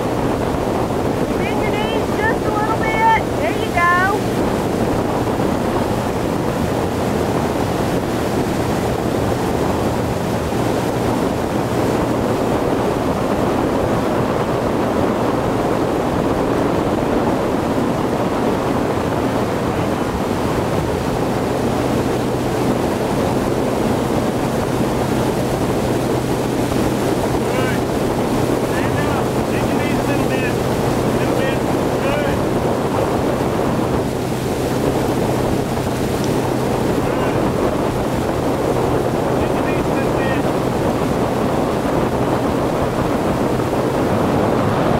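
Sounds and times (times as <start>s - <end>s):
boat engine humming: 0.0s - 44.9s
rush of water spray: 0.0s - 44.9s
wind buffeting microphone: 0.0s - 44.9s.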